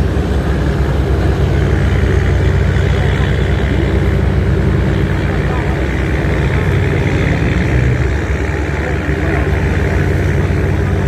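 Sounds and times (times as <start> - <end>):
diesel engine deep hum: 0.0 - 11.0.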